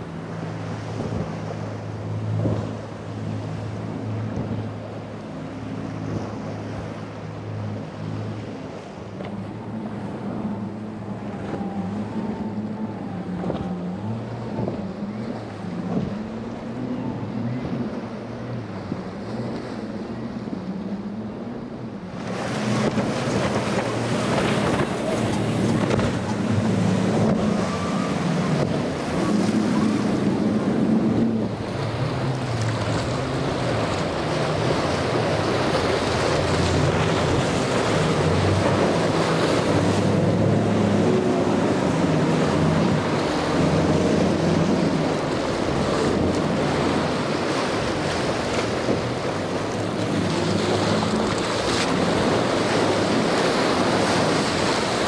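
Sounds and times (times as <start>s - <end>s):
outboard engines running hard: 0.0s - 55.0s
rushing water and spray: 0.0s - 55.0s.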